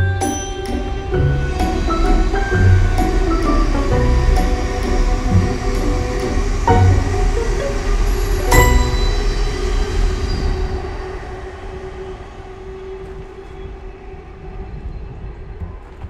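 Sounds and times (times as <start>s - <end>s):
train passing: 0.0s - 15.9s.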